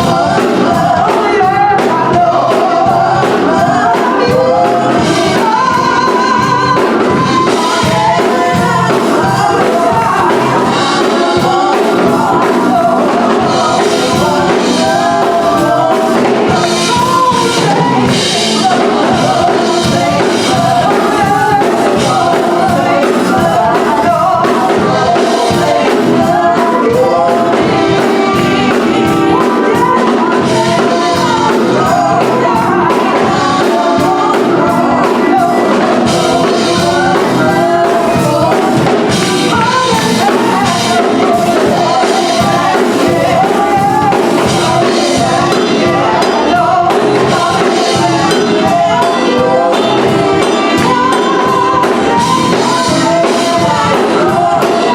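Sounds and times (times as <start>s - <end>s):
band playing a steady beat: 0.0s - 54.9s
gospel singing voices: 0.0s - 54.9s.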